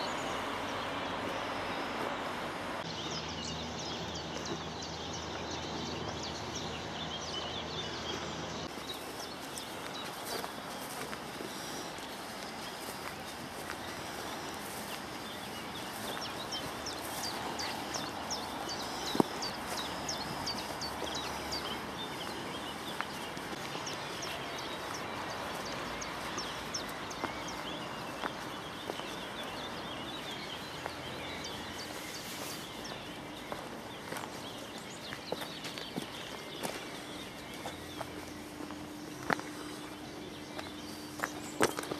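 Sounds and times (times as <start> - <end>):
footsteps on path: 0.0 - 41.9
outdoor background noise: 0.0 - 41.9
small birds chirping: 0.0 - 41.9.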